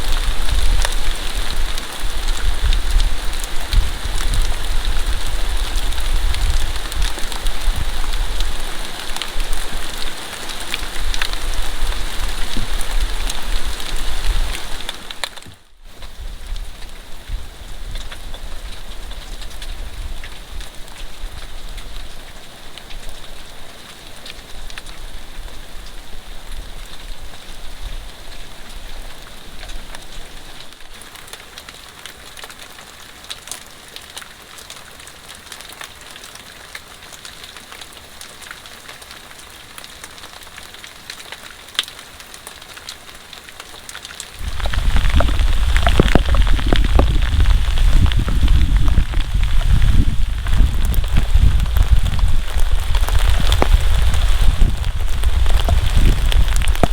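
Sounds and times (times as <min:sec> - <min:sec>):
heavy rain falling: 0:00.0 - 0:56.9
raindrops clicking close by: 0:00.0 - 0:56.9.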